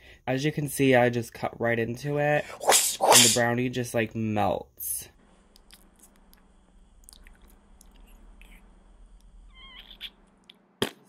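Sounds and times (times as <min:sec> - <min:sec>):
low steady hum: 0:00.5 - 0:10.8.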